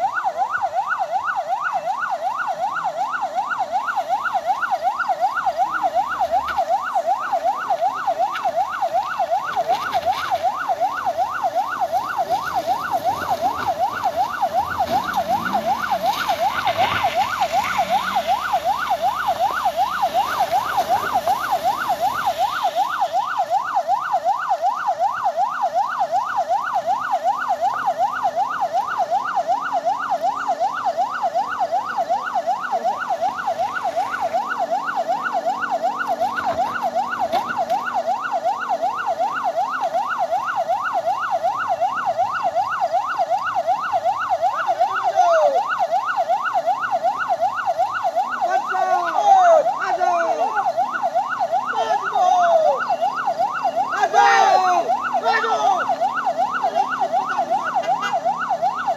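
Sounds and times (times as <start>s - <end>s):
electronic siren sweeping: 0.0s - 58.9s.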